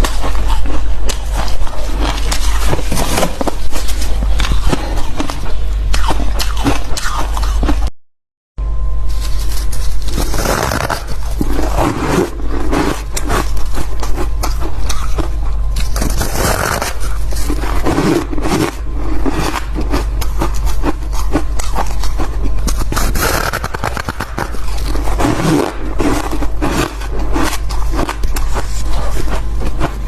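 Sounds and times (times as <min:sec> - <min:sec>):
ice crunching while chewed: 0:00.0 - 0:07.9, 0:09.1 - 0:30.0
steady low hum: 0:00.0 - 0:07.9, 0:08.6 - 0:30.0.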